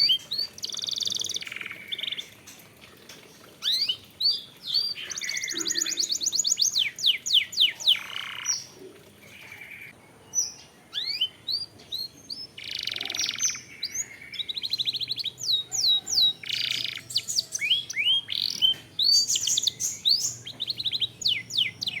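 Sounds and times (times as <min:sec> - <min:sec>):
canary singing trills: 0:00.0 - 0:22.0.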